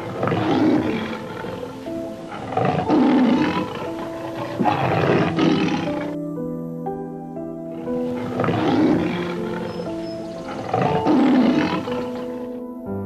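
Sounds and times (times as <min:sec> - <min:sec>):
big cat roaring: 0:00.0 - 0:06.2, 0:07.7 - 0:12.6
background music: 0:00.0 - 0:13.0.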